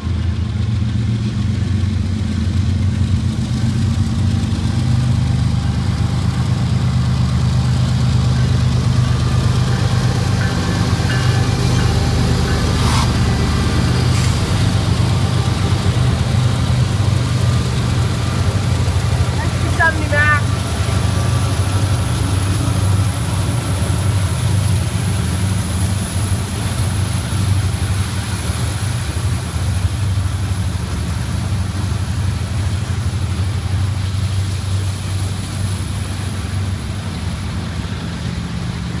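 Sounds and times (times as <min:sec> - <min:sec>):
freight train passing: 0:00.0 - 0:39.0.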